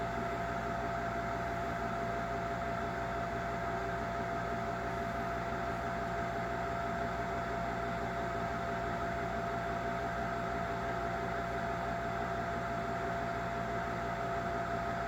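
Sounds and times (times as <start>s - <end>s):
furnace mechanical hum: 0.0s - 15.0s.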